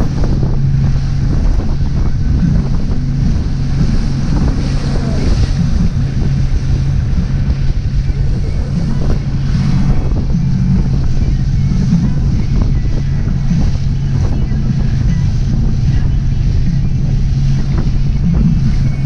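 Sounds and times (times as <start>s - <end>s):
boat motor humming: 0.0s - 19.0s
water rushing past hull: 0.0s - 19.0s
wind buffeting microphone: 0.0s - 19.0s.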